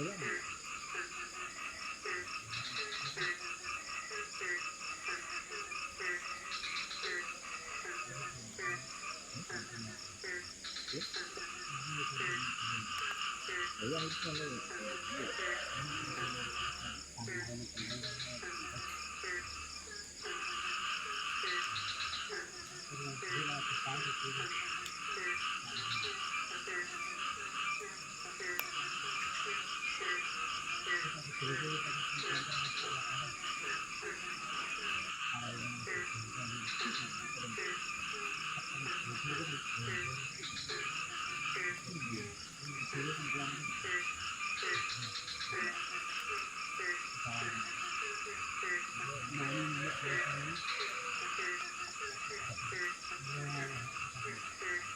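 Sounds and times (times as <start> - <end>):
frogs croaking: 0.0 - 54.9
high insect drone: 0.0 - 54.9.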